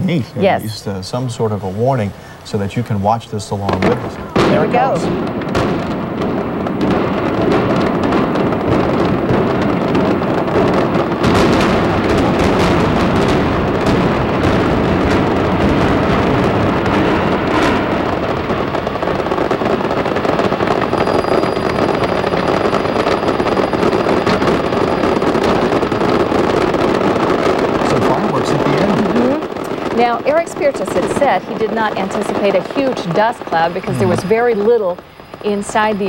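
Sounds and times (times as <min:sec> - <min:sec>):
fireworks crackling: 0:00.0 - 0:36.0
explosive charges cracking: 0:03.7 - 0:34.8.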